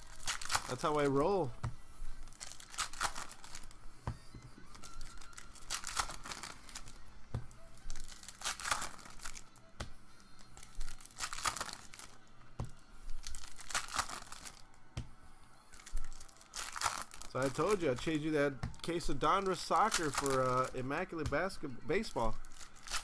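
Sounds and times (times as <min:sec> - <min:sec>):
card wrappers tearing and crinkling: 0:00.0 - 0:03.8, 0:04.7 - 0:14.7, 0:15.7 - 0:23.0.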